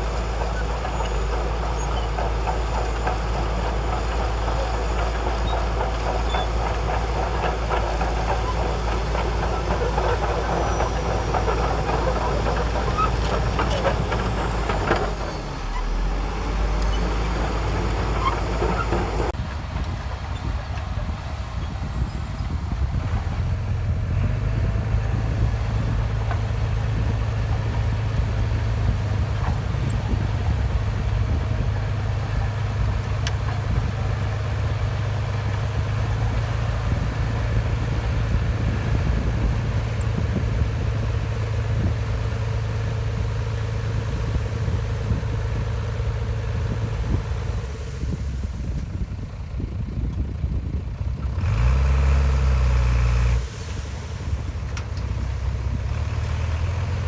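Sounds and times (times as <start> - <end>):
heavy diesel engine humming: 0.0 - 57.0
louder deeper engine: 0.0 - 57.0.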